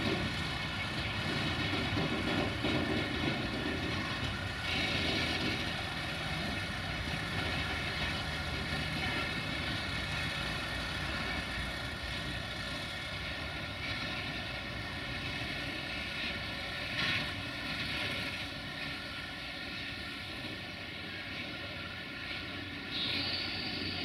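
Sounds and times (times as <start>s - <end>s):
diesel locomotive engine drone: 0.0s - 24.0s
train clank: 0.0s - 24.0s
train wheels on rails: 0.0s - 24.0s.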